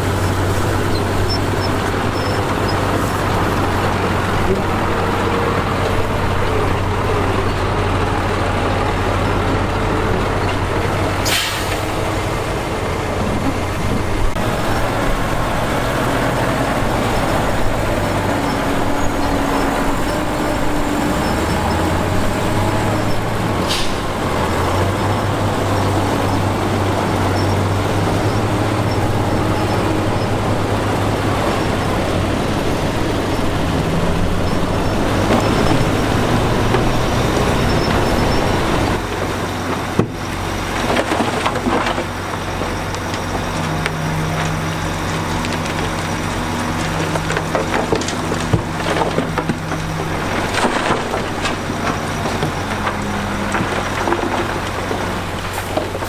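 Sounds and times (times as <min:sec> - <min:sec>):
diesel machinery engine hum: 0:00.0 - 0:56.0.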